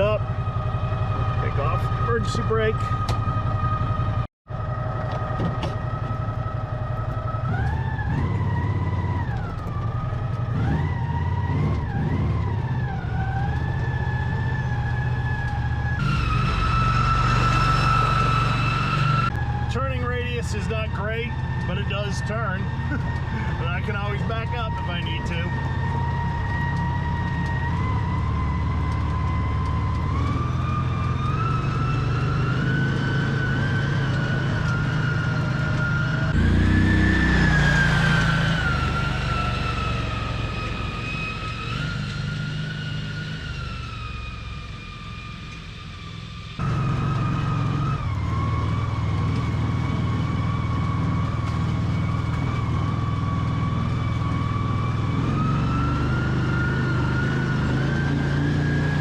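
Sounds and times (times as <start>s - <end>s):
vehicle engine drone and whine: 0.0s - 59.0s.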